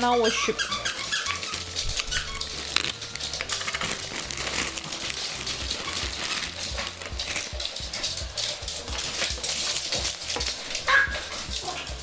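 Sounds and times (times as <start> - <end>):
dog biting and tugging toy: 0.0 - 12.0
plush toy crinkling: 0.0 - 12.0.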